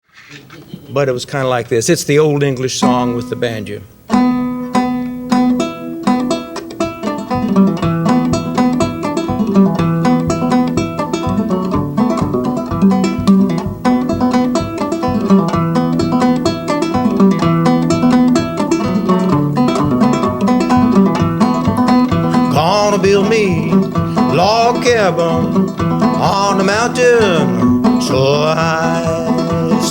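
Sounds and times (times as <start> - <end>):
banjo picking: 2.6 - 29.9.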